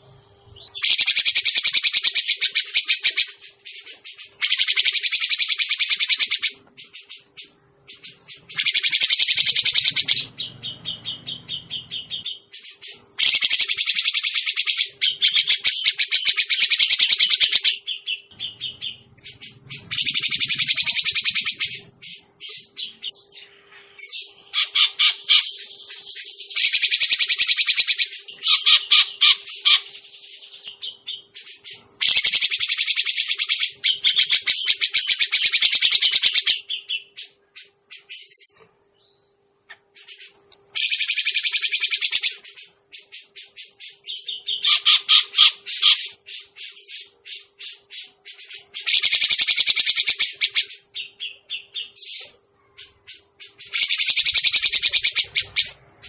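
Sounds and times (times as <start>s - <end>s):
bird harsh chattering calls: 0.0s - 38.6s, 39.7s - 56.0s
faint steady hum: 0.0s - 56.0s.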